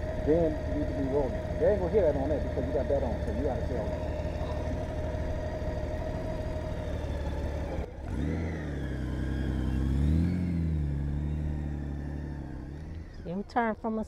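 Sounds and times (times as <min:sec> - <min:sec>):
motorcycle engine idling: 0:00.0 - 0:14.0
motorcycle pulling away: 0:00.0 - 0:14.0.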